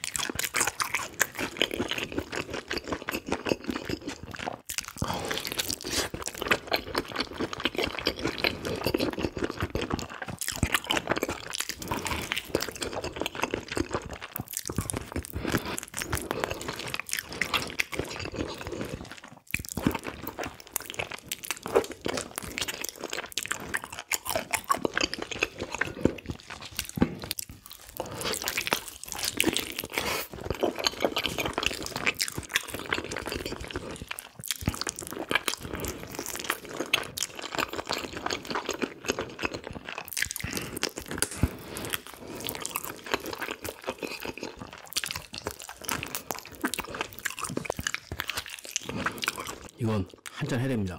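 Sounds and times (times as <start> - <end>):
person chewing and biting: 0.0 - 50.4.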